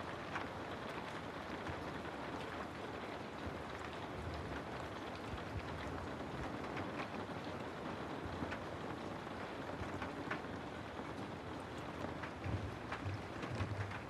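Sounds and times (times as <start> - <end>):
raindrop ticks: 0.1 - 14.0.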